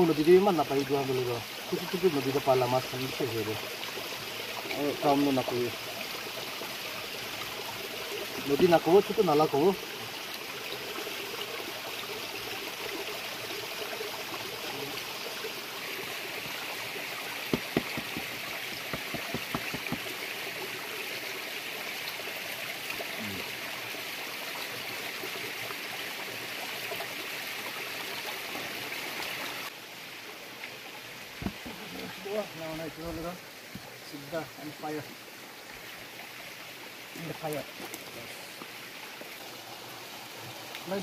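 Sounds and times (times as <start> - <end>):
stream flowing: 0.0 - 41.0.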